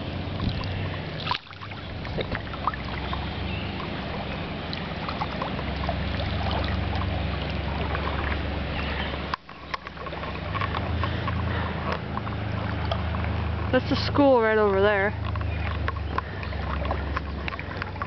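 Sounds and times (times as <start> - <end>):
low motor hum: 0.0 - 18.0
water sloshing and splashing: 0.0 - 18.0.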